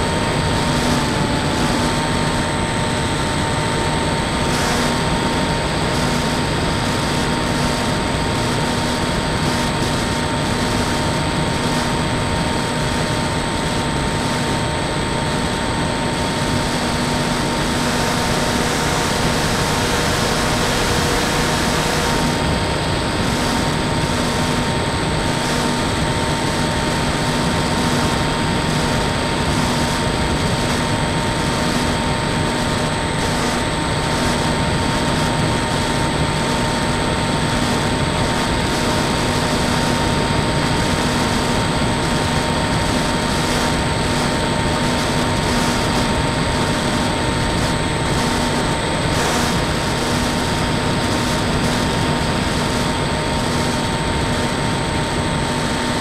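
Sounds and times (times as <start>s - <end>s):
electric motor and propeller hum: 0.0s - 56.0s.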